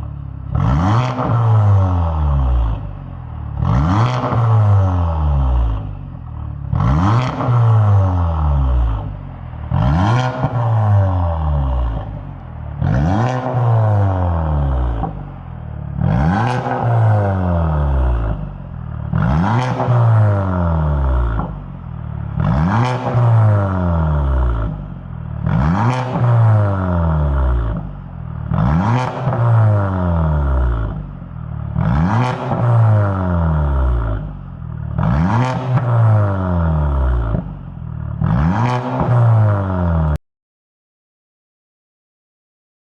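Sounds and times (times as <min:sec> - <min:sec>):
car engine revving: 0:00.0 - 0:40.2.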